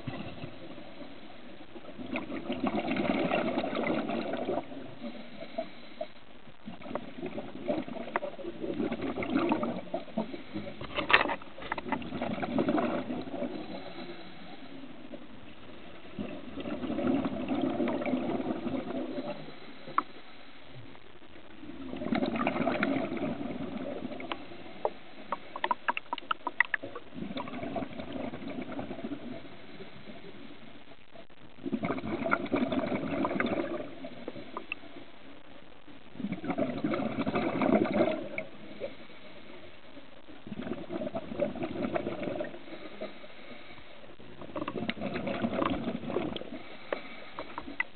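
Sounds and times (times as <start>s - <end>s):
underwater bubbles rushing: 0.0s - 6.0s, 6.6s - 20.2s, 20.8s - 47.9s.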